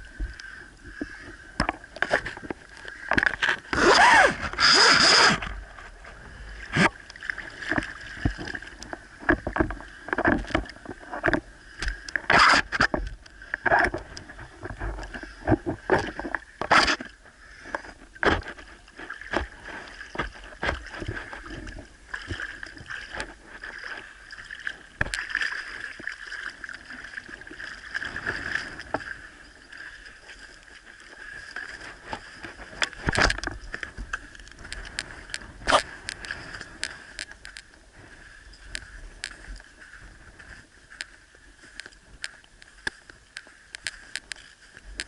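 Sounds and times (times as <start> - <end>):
underwater clicks and knocks: 0.0 - 30.4, 31.4 - 37.8.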